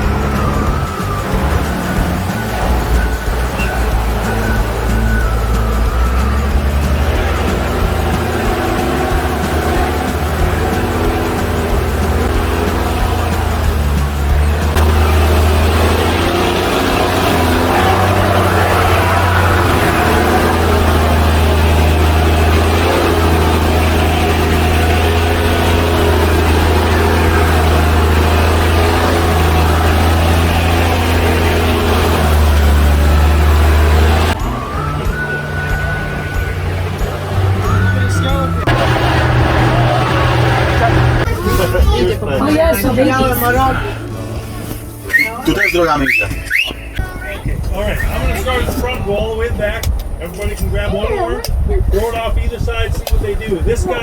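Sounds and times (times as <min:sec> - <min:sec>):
truck engine low rumble: 0:00.0 - 0:54.0.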